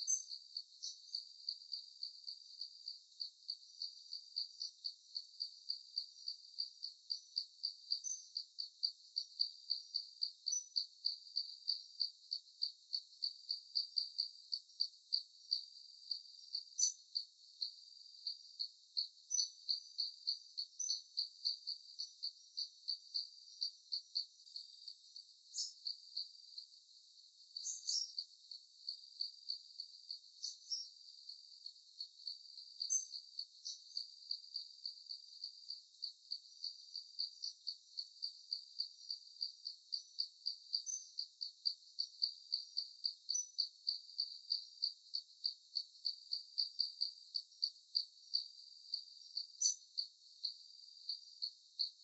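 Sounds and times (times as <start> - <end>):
insect chirping: 0.0 - 52.0.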